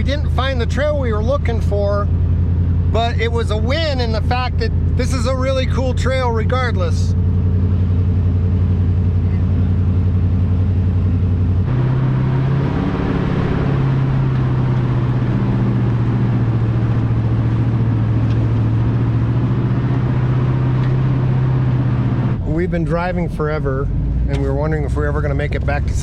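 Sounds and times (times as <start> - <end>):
truck engine drone: 0.0 - 26.0
tyre and road noise: 0.0 - 26.0.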